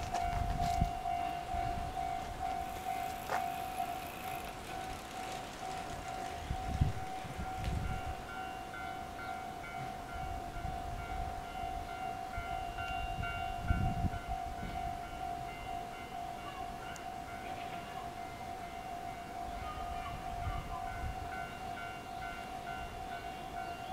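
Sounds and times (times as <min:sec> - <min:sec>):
freight train rumbling: 0:00.0 - 0:23.9
level-crossing warning bell: 0:00.0 - 0:23.9.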